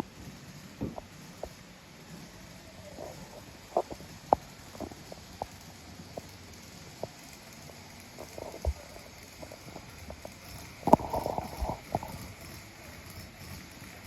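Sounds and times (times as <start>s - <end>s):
train motor clicking and knocking: 0.0s - 14.0s
train running: 0.0s - 14.0s.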